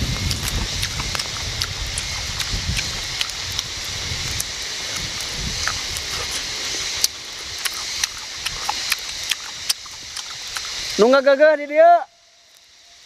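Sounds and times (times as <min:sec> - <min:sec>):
person chewing food: 0:00.0 - 0:11.0
steady high hiss: 0:00.0 - 0:13.0
wet mouth clicks and smacks: 0:00.1 - 0:11.0.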